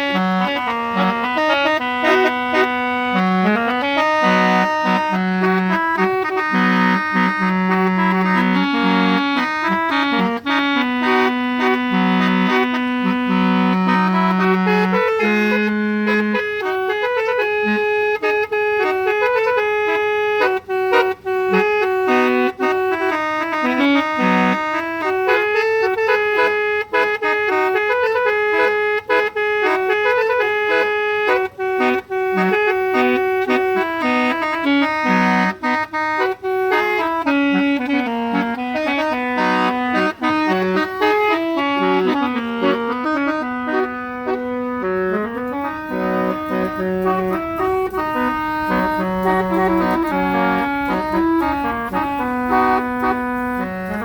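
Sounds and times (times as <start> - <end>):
reedy organ-like melody: 0.0 - 54.0.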